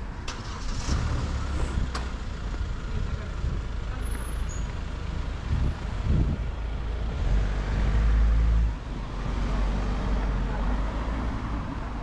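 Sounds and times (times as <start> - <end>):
cars driving past: 0.0 - 2.9, 4.1 - 12.0.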